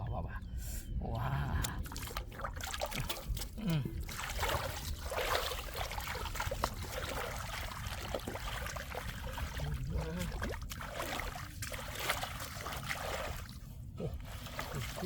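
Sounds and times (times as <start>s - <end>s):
floodwater trickling: 1.4s - 15.0s
small water splashes: 1.6s - 15.0s.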